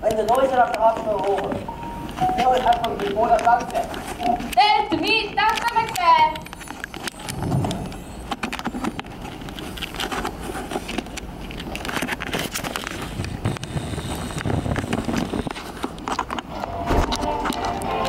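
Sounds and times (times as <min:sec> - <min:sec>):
rustling: 0:00.0 - 0:17.9.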